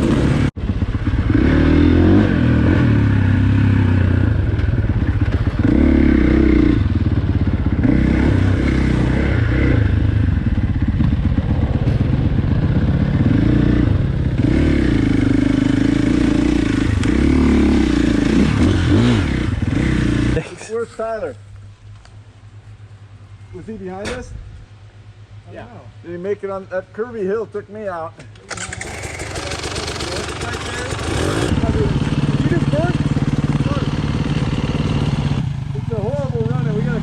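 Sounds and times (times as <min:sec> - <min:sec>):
dirt bike engine: 0:00.0 - 0:37.0.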